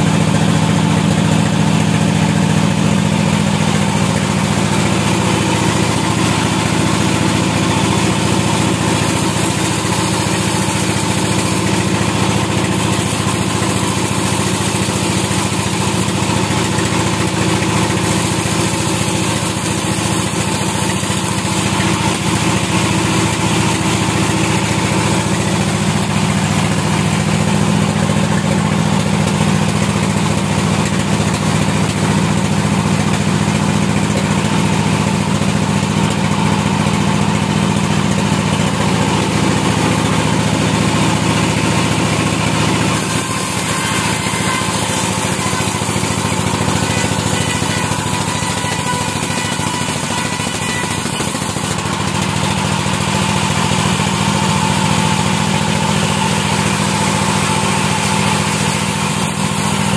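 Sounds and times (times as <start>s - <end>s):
sawmill machine drone: 0.0s - 59.9s.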